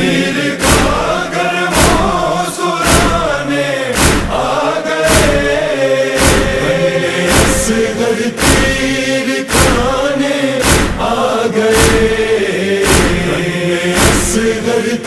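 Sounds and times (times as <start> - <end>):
heavy beat: 0.0 - 14.8
male voices chanting in chorus: 0.0 - 15.0.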